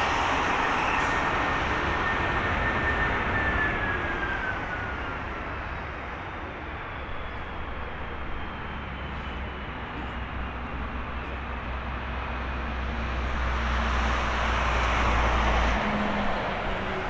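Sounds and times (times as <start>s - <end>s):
jet engines winding down: 0.0s - 17.0s.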